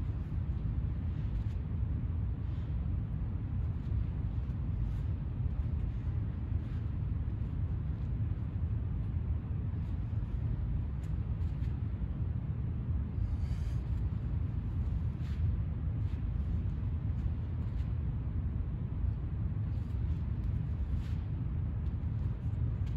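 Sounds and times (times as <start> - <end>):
low background rumble: 0.0 - 22.9.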